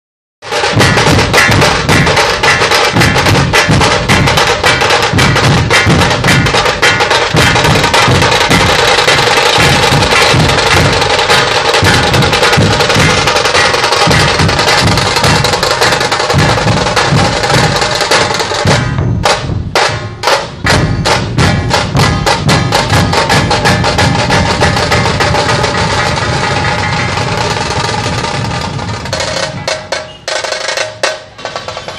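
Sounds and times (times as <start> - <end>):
barrel drums fast rhythm: 0.4 - 31.9
kettle drums sharp strokes: 0.4 - 31.9.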